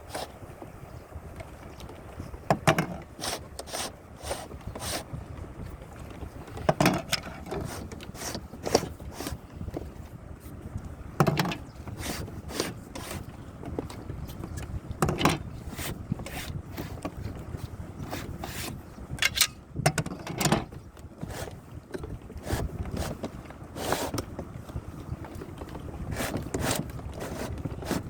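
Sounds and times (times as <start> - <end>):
plastic canoe scrapes and knocks: 0.0 - 0.8, 1.4 - 28.0
wind rumble on microphone: 0.0 - 28.0.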